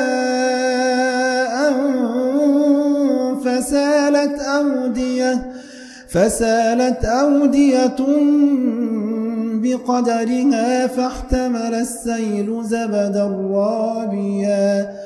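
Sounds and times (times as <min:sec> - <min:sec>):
person chanting melodic recitation: 0:00.0 - 0:15.0.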